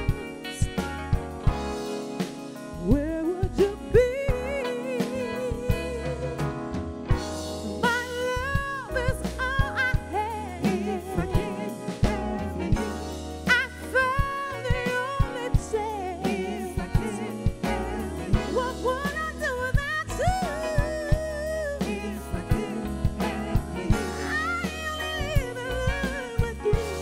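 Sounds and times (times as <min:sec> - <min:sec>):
woman singing with vibrato: 0:00.0 - 0:00.8, 0:02.8 - 0:06.6, 0:07.6 - 0:27.0
soul band playing: 0:00.0 - 0:27.0.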